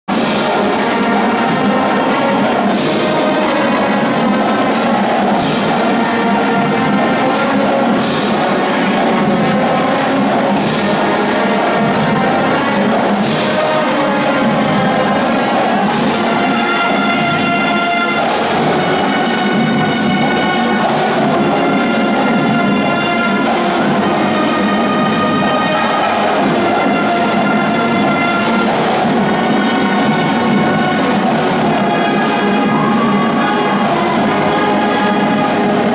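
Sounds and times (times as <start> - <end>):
brass instruments: 0.0 - 35.9
drumline snare and bass drums: 0.1 - 35.9
woodwinds: 0.1 - 35.9.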